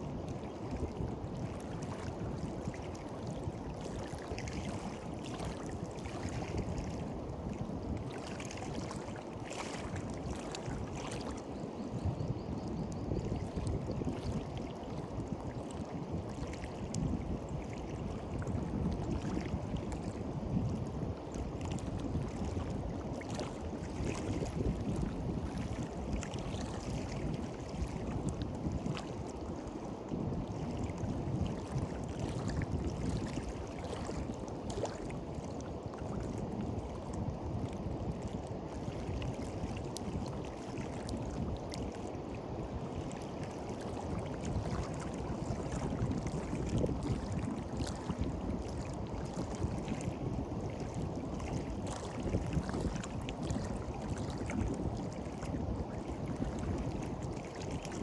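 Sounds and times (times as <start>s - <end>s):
small waves lapping on beach: 0.0s - 58.0s.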